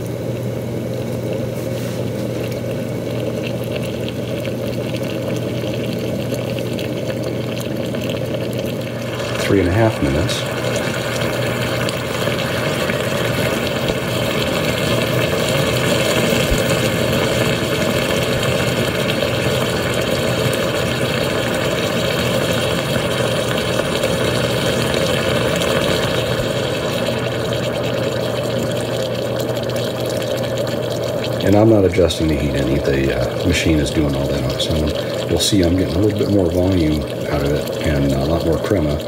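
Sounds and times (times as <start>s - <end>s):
stovetop espresso maker boiling: 0.0s - 39.0s.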